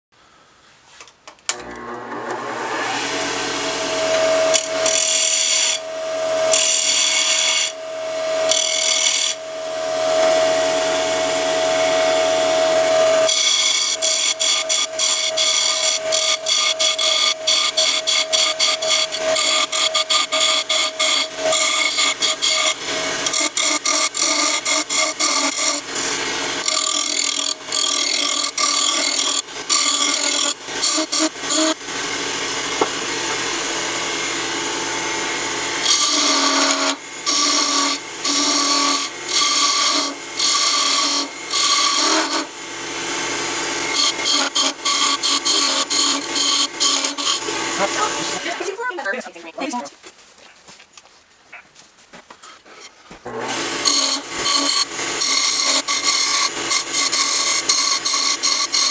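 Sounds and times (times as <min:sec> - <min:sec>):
chisel scraping wood on lathe: 0:03.8 - 0:10.7, 0:11.5 - 0:32.1, 0:35.5 - 0:49.1, 0:52.6 - 0:58.9.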